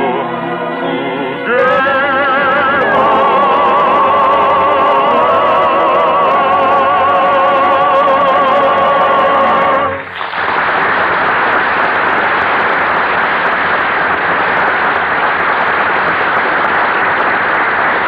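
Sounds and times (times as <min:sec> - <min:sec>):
audience applause: 0:02.7 - 0:18.0.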